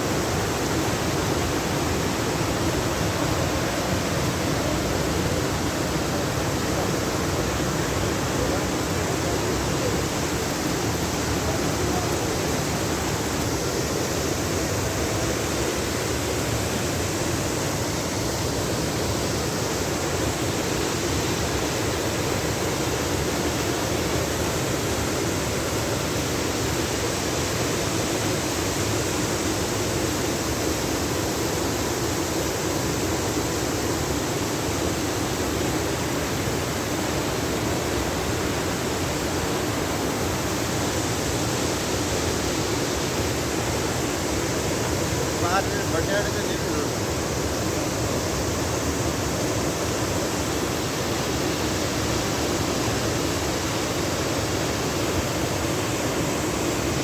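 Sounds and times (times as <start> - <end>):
heavy rain pouring: 0.0 - 27.3, 38.2 - 57.0.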